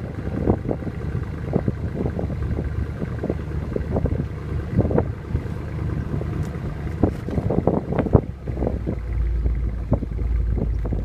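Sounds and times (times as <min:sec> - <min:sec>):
car engine idling with exhaust burble: 0:00.0 - 0:11.0
wind buffeting microphone: 0:00.0 - 0:11.0.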